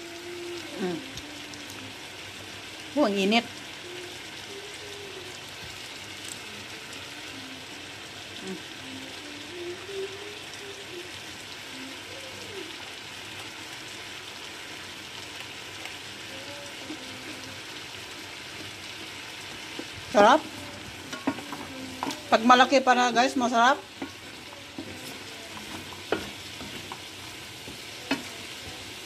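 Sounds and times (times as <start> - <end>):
peanuts sizzling in a hot pan: 0.0 - 29.0.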